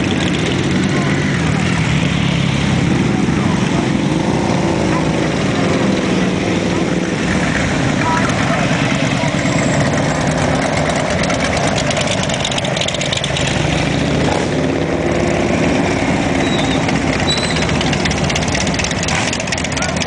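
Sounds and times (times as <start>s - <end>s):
motorcycles riding past: 0.0s - 20.0s.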